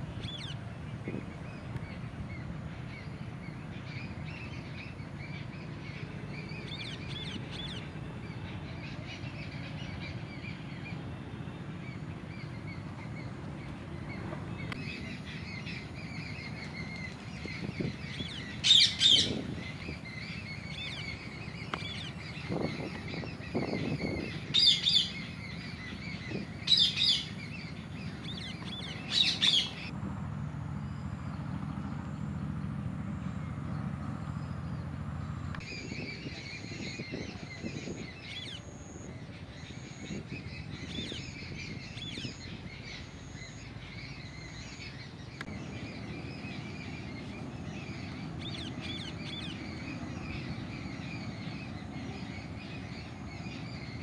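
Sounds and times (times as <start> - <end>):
faint birds chirping: 0.0 - 54.0.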